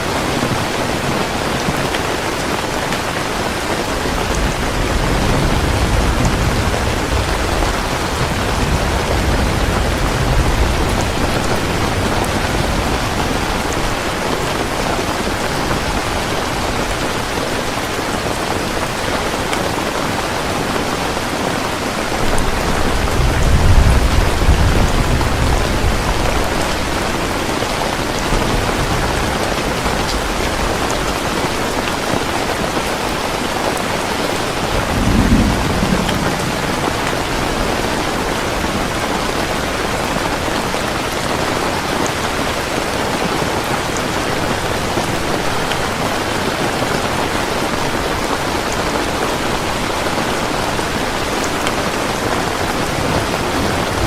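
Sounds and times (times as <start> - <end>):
heavy rain falling: 0.0 - 54.0
thunder rumbles: 0.0 - 54.0.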